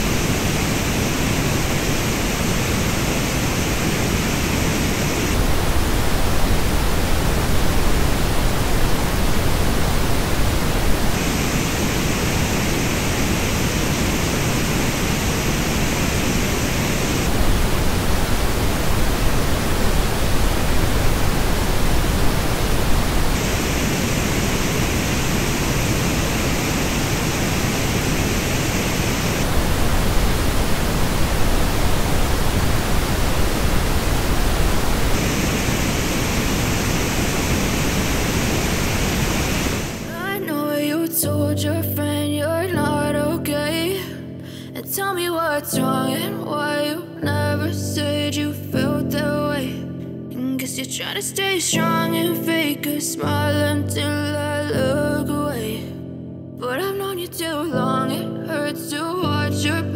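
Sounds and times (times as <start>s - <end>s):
steady pink noise: 0.0s - 49.8s.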